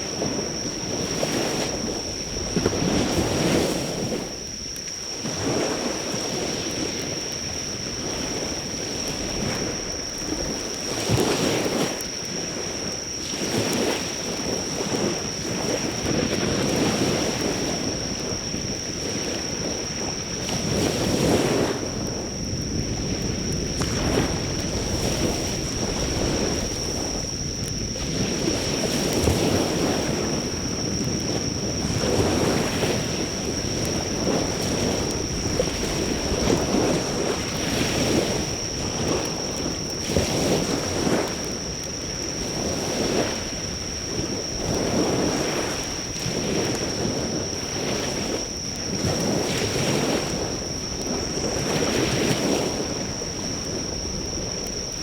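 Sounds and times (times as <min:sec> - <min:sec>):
campfire crackling: 0:00.0 - 0:20.8, 0:21.6 - 0:49.5, 0:50.2 - 0:55.0
insects droning: 0:00.0 - 0:55.0
waves breaking on shore: 0:00.0 - 0:55.0.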